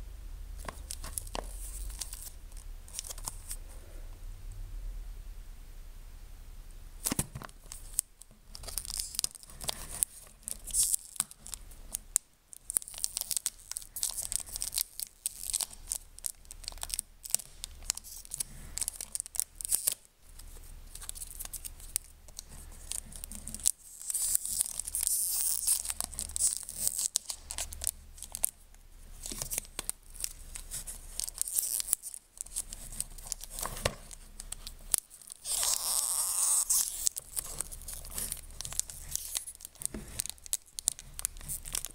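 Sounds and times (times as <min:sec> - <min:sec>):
cellophane wrap crinkling: 0:00.6 - 0:03.6, 0:07.0 - 0:41.9.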